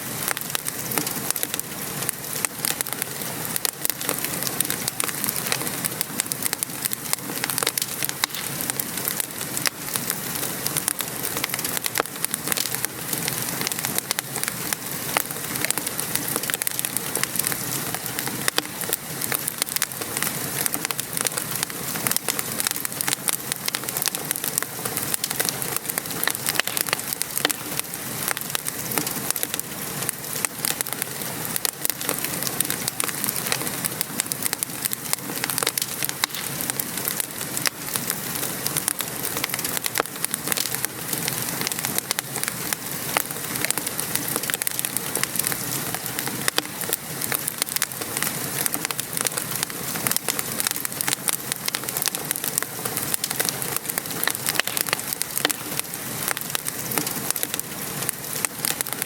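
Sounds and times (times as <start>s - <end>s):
steady rain falling: 0.0s - 59.0s
wood fire crackling: 0.0s - 59.0s.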